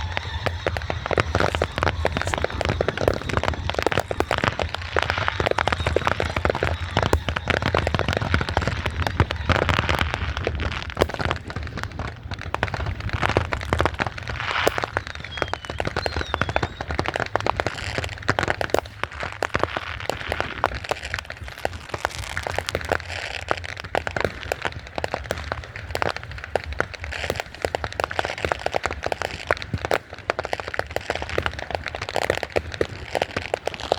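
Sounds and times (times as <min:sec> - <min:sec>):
fireworks crackling and popping: 0:00.0 - 0:33.9
wavering firework whistle: 0:00.0 - 0:33.9.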